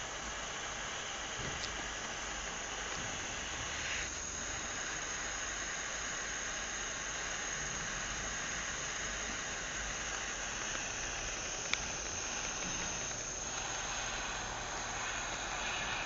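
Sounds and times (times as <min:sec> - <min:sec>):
model engine hissing: 0:00.0 - 0:16.0.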